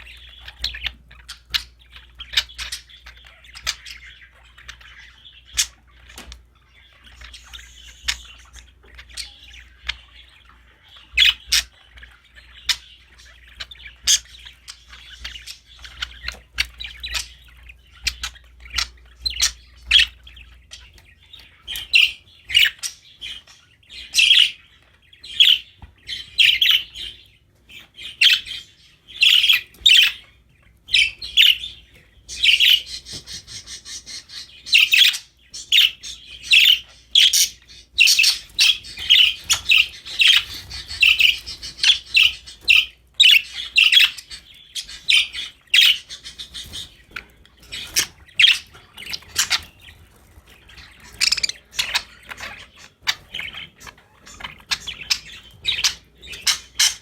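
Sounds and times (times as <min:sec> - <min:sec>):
budgies chirping: 0:00.0 - 0:57.0.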